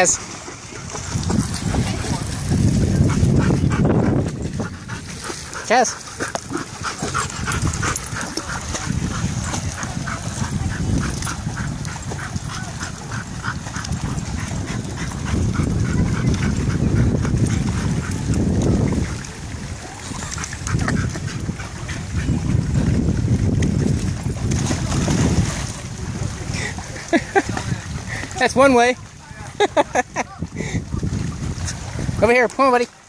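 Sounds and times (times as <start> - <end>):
wind rumbling on microphone: 0.0 - 33.0.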